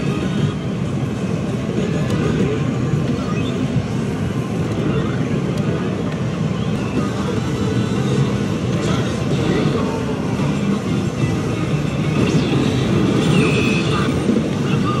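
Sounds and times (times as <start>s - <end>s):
low rumble of crowded room: 0.0s - 15.0s.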